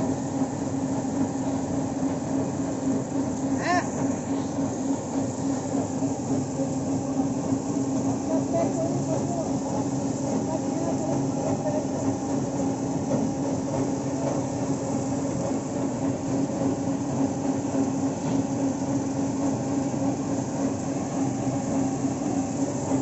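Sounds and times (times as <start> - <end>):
bus washing machine humming: 0.0 - 23.0.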